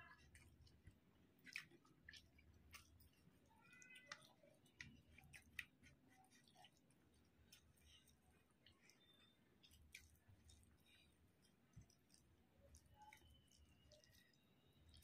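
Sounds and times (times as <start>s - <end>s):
chewing: 0.0s - 15.0s
wet clicks of eating by hand: 0.1s - 15.0s.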